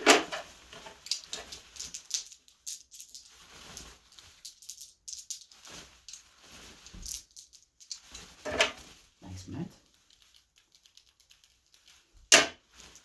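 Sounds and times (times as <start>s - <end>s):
small hard objects rattling: 0.0s - 13.0s.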